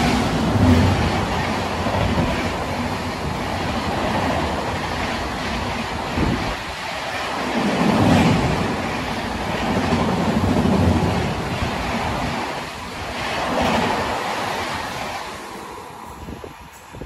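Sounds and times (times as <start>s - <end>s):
train rushing past: 0.0s - 17.0s.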